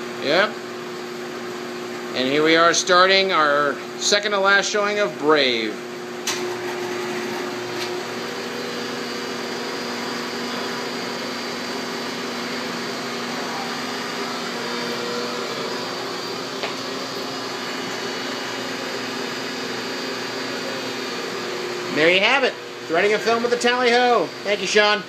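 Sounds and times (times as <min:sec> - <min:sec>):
film projector whirring: 0:00.0 - 0:25.0.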